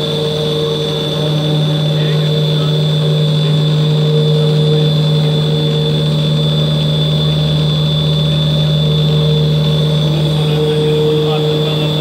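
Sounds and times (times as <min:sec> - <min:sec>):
mixer motor humming: 0:00.0 - 0:12.0.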